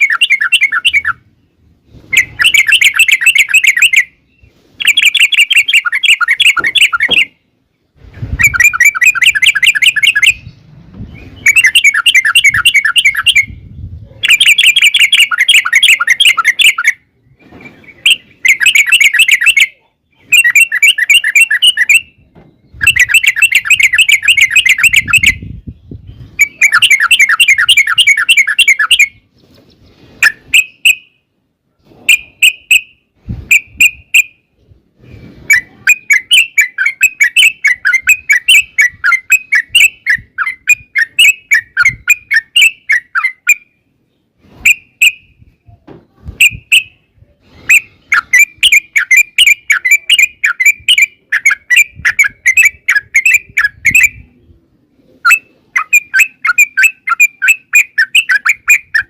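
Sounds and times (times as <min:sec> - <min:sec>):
bird singing rolling chatter: 0:00.0 - 0:59.0.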